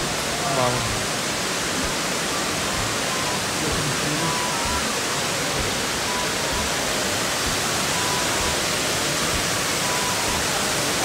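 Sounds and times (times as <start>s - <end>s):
water rushing down a wall: 0.0s - 11.0s.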